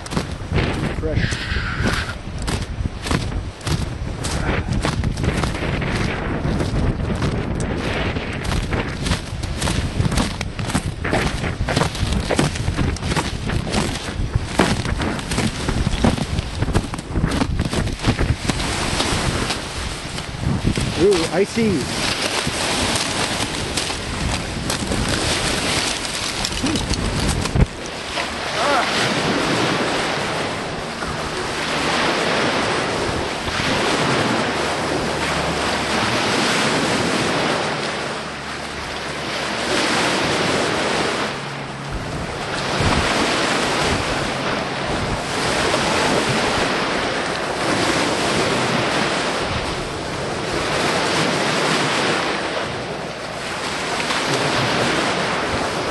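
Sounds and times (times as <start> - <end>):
lake waves washing onto shore: 0.0 - 55.9
wind buffeting microphone: 0.0 - 55.9.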